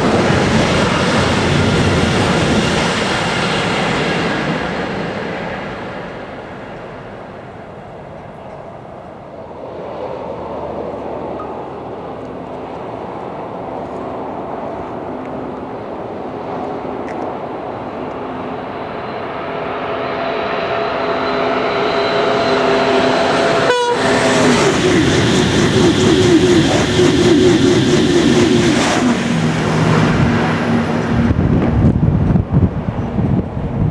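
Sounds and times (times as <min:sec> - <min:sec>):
high-speed train passing: 0:00.0 - 0:33.9
rhythmic rattle of train cars: 0:00.0 - 0:33.9.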